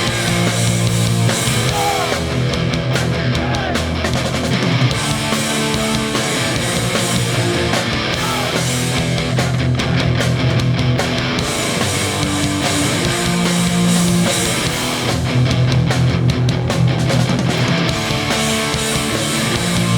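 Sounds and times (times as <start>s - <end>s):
bass guitar: 0.0s - 19.9s
distorted electric guitars: 0.0s - 19.9s
driving drums: 0.0s - 19.9s.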